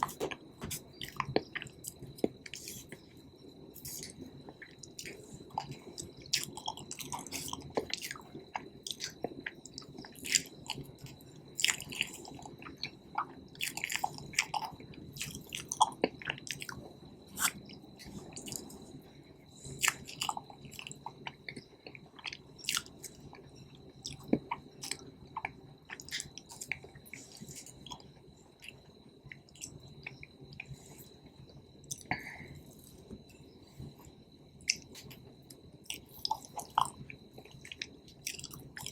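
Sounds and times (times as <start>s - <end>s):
person chewing food: 0.0s - 3.0s, 3.8s - 10.9s, 11.6s - 18.8s, 19.7s - 30.8s, 31.9s - 38.9s.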